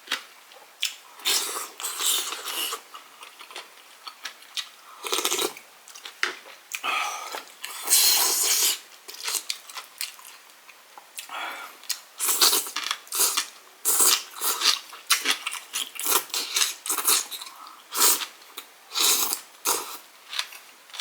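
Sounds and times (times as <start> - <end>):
chewing with small clicks: 0.1 - 7.8, 9.1 - 21.0.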